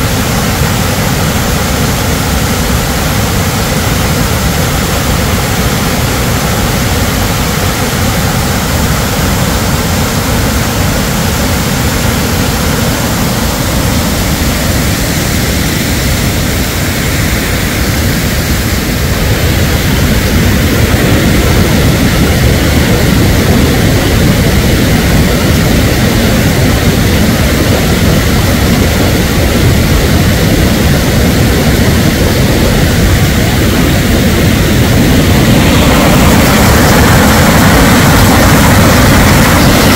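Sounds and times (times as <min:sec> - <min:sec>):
floodwater rushing torrent: 0:00.0 - 0:39.9.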